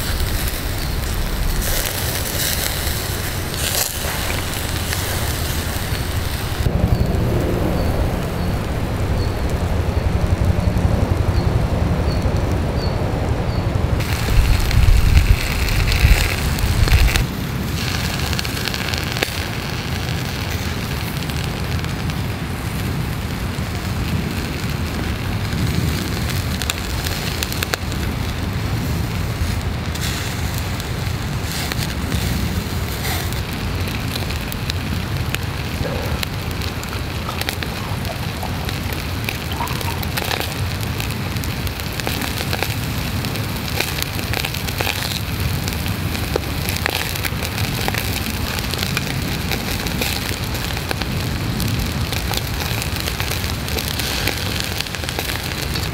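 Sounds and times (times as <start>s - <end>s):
meat sizzling on a grill: 0.0s - 6.7s, 14.0s - 55.9s
coals crackling and popping: 0.0s - 55.9s.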